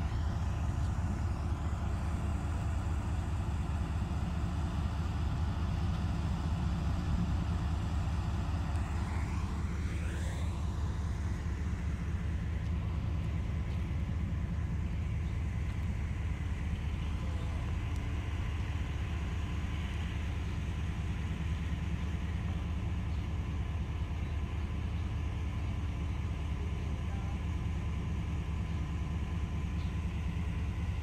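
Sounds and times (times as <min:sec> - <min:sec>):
train passing with low rumble: 0:00.0 - 0:31.0.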